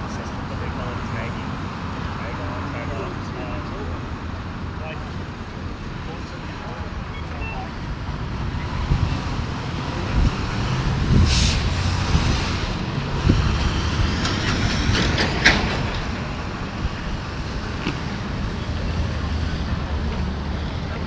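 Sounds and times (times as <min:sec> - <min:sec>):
rumble of passing traffic: 0:00.0 - 0:21.0.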